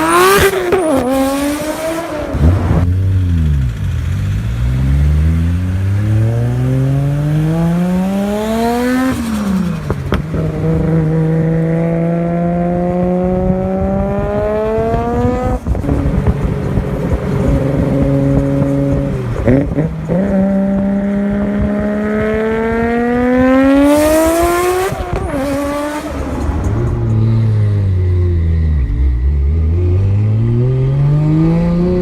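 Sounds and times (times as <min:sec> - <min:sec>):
car engine revving hard: 0:00.0 - 0:27.8.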